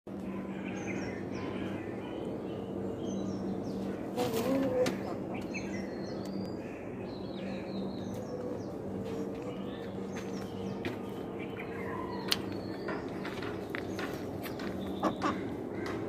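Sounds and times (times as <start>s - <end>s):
low hum: 0.1s - 16.0s
outdoor background noise: 0.1s - 16.0s
small birds chirping: 0.2s - 16.0s.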